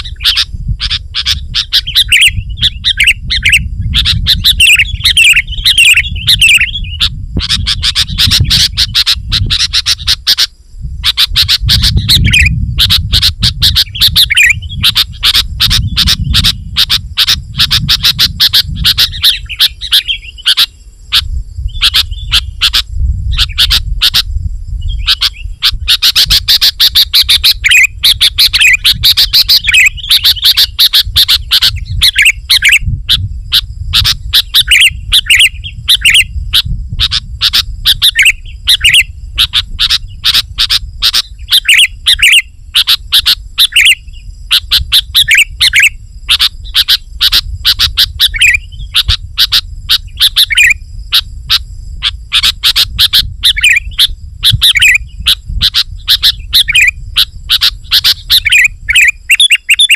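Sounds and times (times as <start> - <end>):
bird singing rapid chirps: 0.0 - 59.9.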